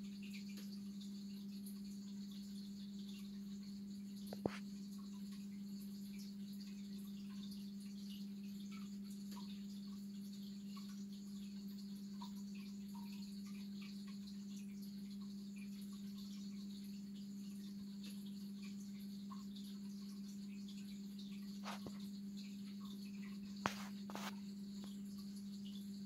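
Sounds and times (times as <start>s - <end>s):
aquarium pump humming: 0.0s - 26.0s
faint ticks and chirps: 0.0s - 26.0s.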